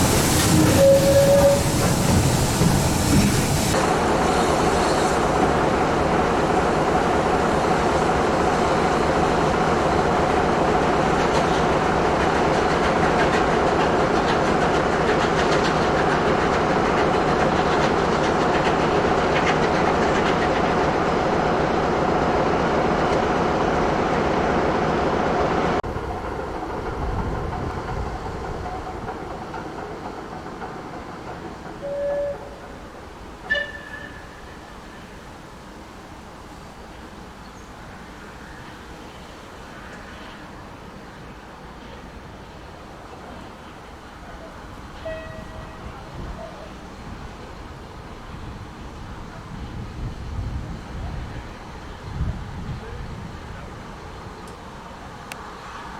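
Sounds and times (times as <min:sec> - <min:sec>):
steam train rumbling on rails: 0:00.0 - 0:55.9.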